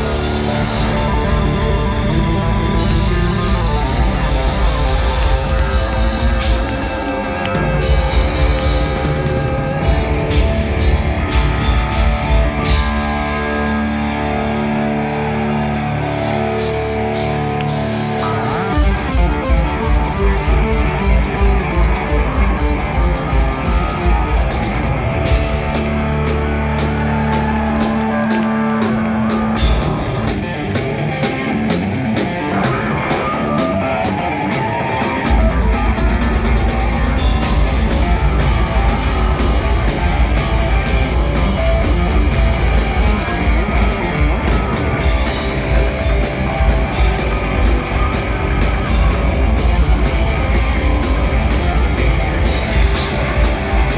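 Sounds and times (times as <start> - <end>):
live hard rock band: 0.0 - 53.9.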